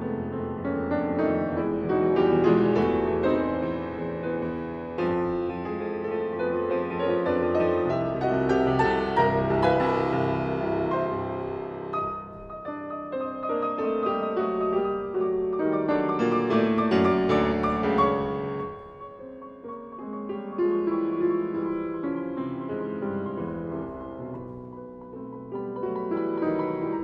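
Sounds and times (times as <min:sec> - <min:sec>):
solo piano piece: 0:00.0 - 0:27.0.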